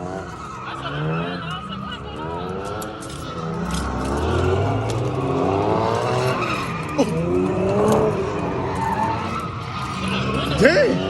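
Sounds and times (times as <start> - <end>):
car engine revving hard: 0.0 - 11.0
tires squealing: 0.0 - 11.0.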